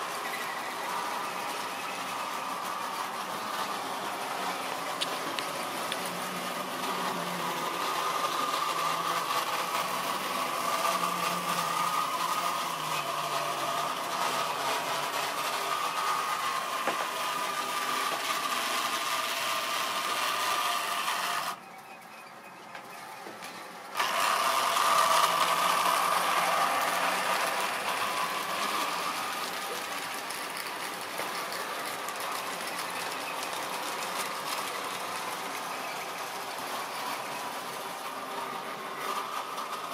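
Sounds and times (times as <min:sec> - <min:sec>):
model train motor whine: 0:00.0 - 0:21.6, 0:23.4 - 0:39.9
wheels clattering over track: 0:00.0 - 0:21.6, 0:22.7 - 0:39.9.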